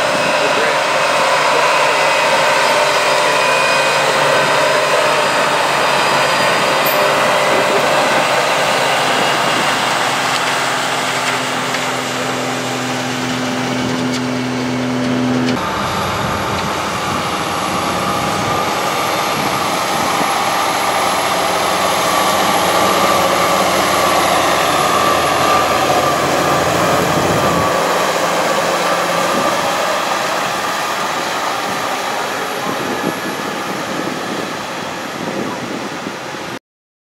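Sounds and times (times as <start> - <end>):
tractor diesel engine under load: 0.0 - 36.6.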